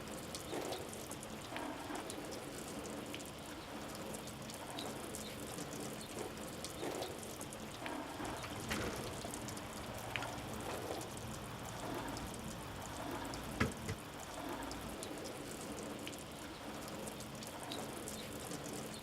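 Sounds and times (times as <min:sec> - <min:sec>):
patter of falling water: 0:00.0 - 0:19.0
water drips: 0:00.0 - 0:19.0.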